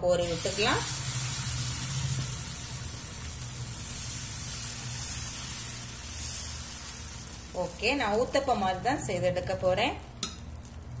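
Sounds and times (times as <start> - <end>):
batter sizzling on a griddle: 0.0 - 11.0.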